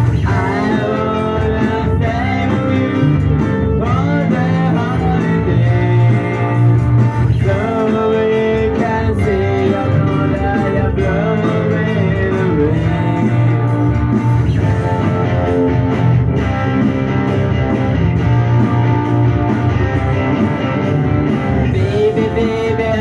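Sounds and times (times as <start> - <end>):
punk rock band instrumental: 0.0 - 23.0.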